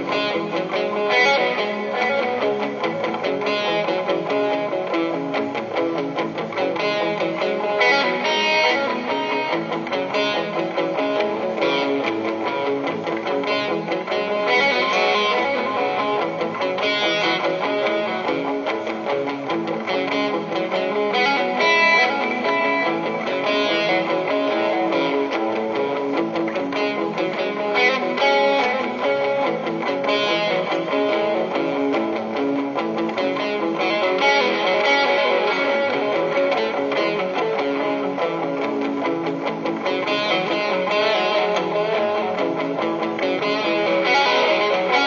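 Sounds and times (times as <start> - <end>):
electric guitar playing: 0.0 - 45.0.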